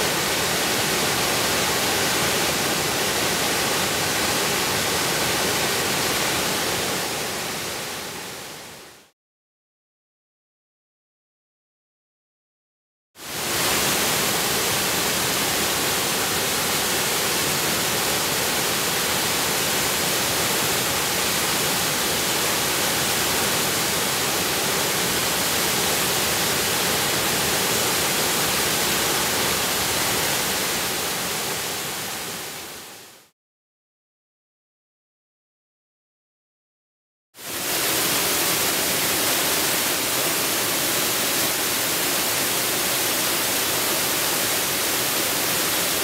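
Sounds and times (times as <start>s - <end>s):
waterfall rushing: 0.0s - 8.8s, 13.2s - 33.3s, 37.4s - 46.0s.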